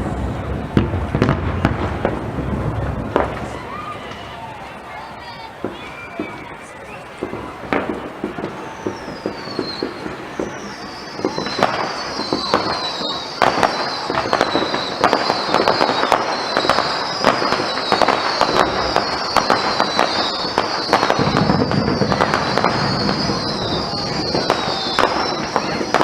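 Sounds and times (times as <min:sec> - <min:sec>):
firework bangs and crackles: 0:00.0 - 0:26.0
high falling firework whistles: 0:00.0 - 0:26.0.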